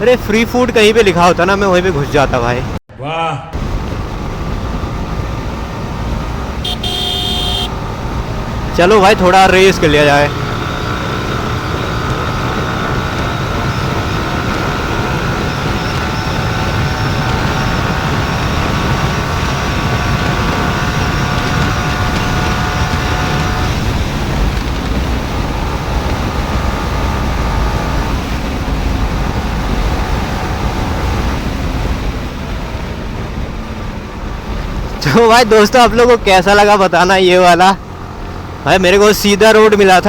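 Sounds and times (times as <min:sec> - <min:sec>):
wind and road noise: 0:00.0 - 0:02.9, 0:03.6 - 0:40.0
motorcycle engine accelerating: 0:03.6 - 0:35.1, 0:37.5 - 0:39.8
gear change: 0:03.6 - 0:40.0.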